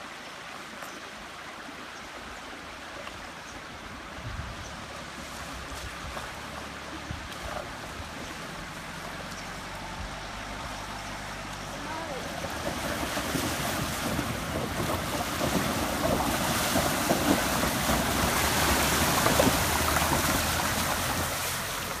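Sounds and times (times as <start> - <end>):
water churning and splashing: 1.6 - 22.0.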